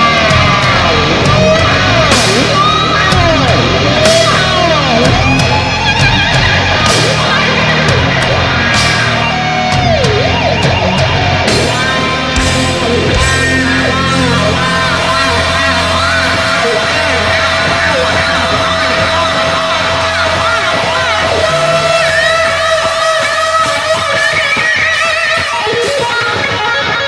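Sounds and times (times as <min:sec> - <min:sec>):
crowd yelling: 0:00.0 - 0:27.0
heavy metal band playing live: 0:00.0 - 0:27.0.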